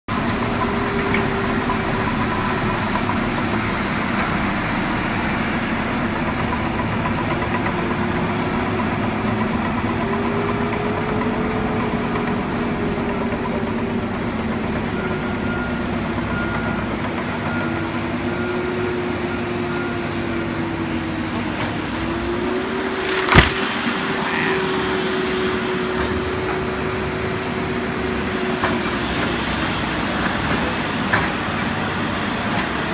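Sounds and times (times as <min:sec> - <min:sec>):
backhoe engine running: 0:00.1 - 0:32.9.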